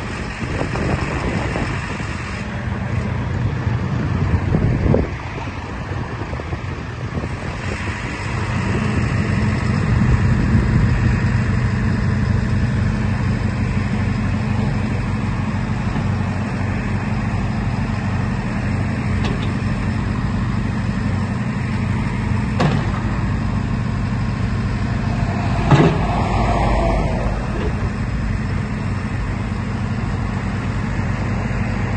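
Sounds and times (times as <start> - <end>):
diesel engine under load: 0.0 - 31.9.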